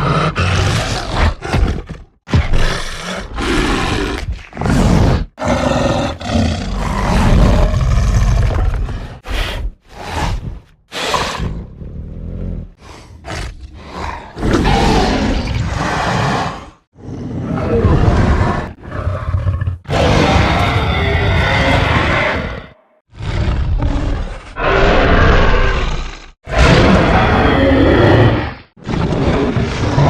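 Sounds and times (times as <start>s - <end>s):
creature roaring and growling: 0.0s - 11.7s, 12.3s - 30.0s.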